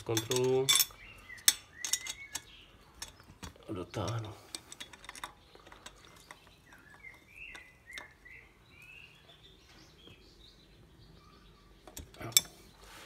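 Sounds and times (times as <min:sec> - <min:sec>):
faint bird chirps: 0:00.8 - 0:04.3, 0:05.3 - 0:13.0.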